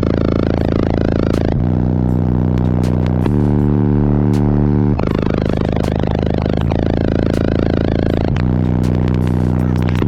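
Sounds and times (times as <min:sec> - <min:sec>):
bass-heavy music: 0:00.0 - 0:10.0.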